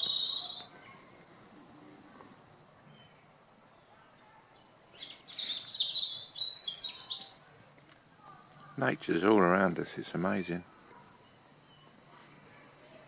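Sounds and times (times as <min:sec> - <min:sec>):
songbirds singing: 0:00.0 - 0:12.8.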